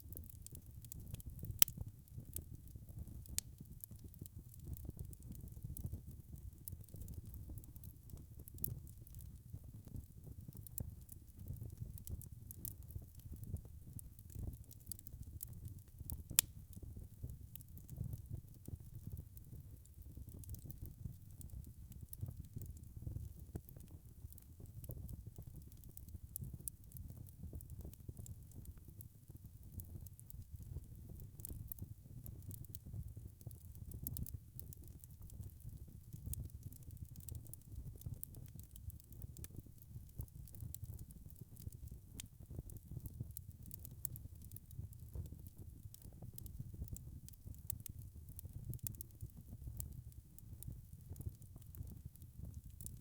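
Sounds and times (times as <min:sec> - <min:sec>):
fire crackles and pops: 0:00.0 - 0:53.0
rumble of flames: 0:00.0 - 0:53.0.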